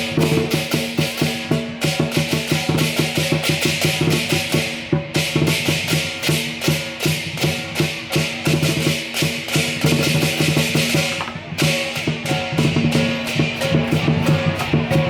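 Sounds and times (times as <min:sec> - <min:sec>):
drum beating: 0:00.0 - 0:15.0
rapid clashing cymbals: 0:00.0 - 0:15.0.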